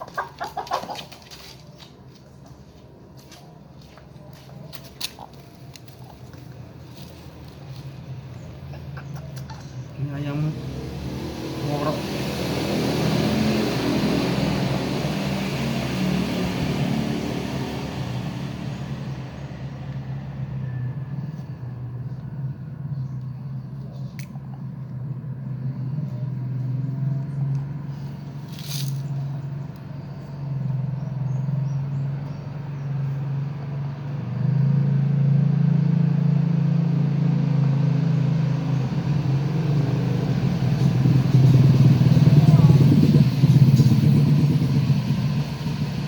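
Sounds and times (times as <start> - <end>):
low engine drone: 5.3 - 46.0.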